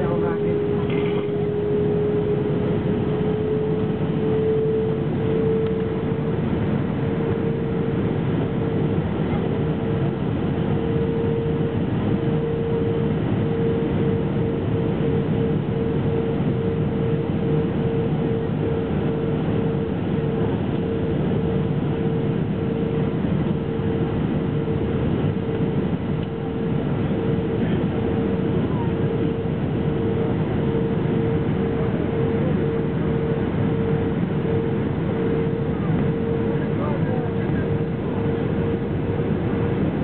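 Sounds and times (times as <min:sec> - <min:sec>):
airliner cabin airflow and engines: 0:00.0 - 0:40.0
steady mid-pitched hum: 0:00.0 - 0:40.0.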